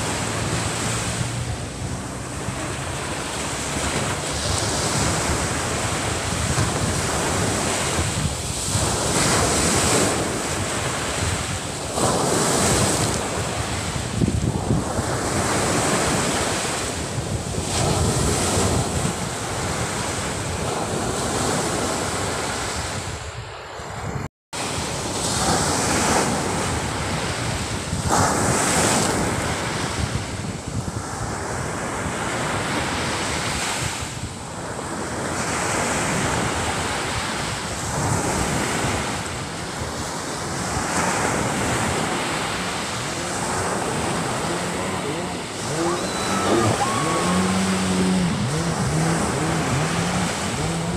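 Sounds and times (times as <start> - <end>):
surf breaking on beach: 0.0 - 23.0, 24.6 - 50.9
wind rumbling on microphone: 0.0 - 50.9.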